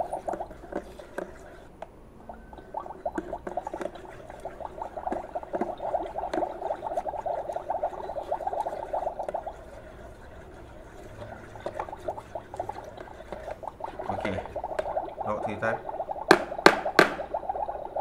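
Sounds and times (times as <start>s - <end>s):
toy cauldron bubbling and gurgling: 0.0s - 18.0s.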